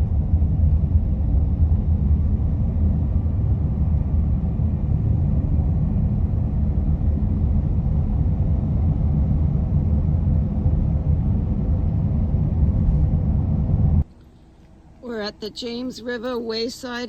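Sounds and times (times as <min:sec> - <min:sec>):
vehicle interior road rumble: 0:00.0 - 0:17.0.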